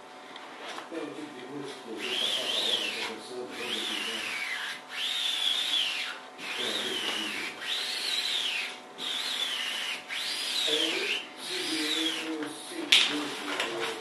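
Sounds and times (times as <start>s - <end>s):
squeegee scraping vinyl film: 2.0s - 14.0s.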